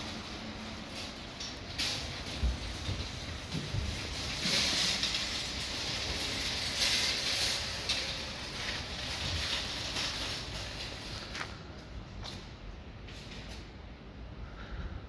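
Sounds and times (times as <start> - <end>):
car tyres on wet pavement: 0.0 - 13.7.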